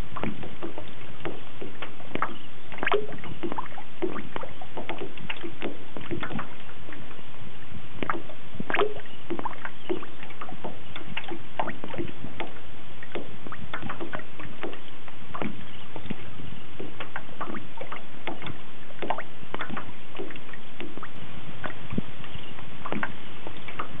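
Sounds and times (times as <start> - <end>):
paddle splashes: 0.0 - 24.0
water slapping against boat hull: 0.0 - 24.0.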